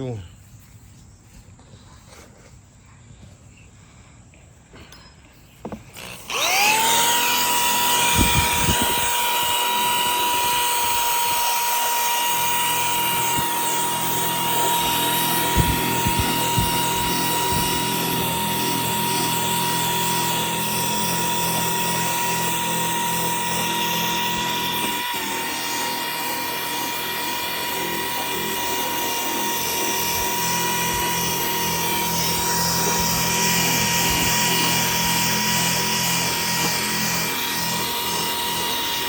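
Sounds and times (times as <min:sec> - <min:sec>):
electric drill whining: 0:05.6 - 0:39.0.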